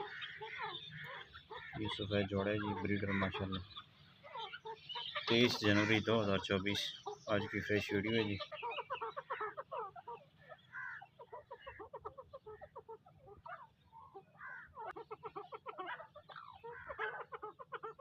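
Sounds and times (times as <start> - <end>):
francolins clucking and chattering: 0.0 - 18.0.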